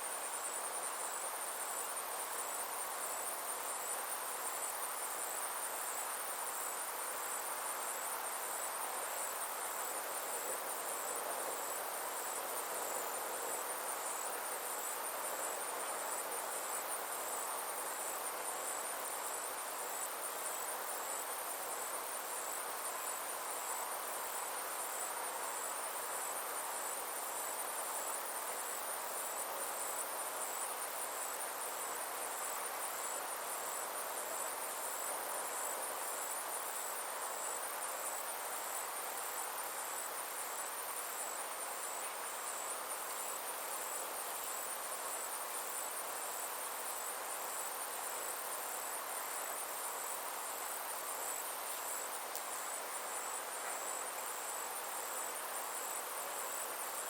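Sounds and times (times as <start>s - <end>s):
insect chorus hiss: 0.0s - 57.0s.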